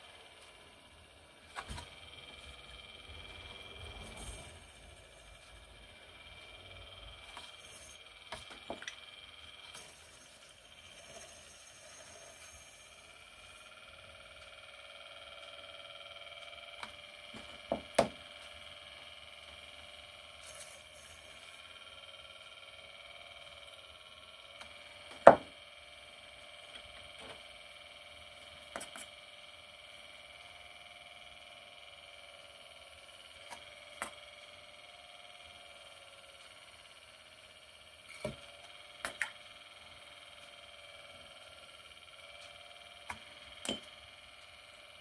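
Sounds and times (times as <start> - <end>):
pottery wheel motor whine: 0.0 - 45.0.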